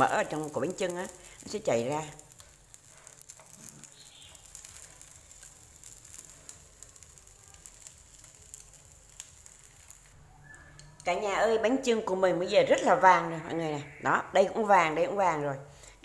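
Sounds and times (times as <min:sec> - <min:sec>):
faint sizzling in a pan: 0:00.0 - 0:16.0.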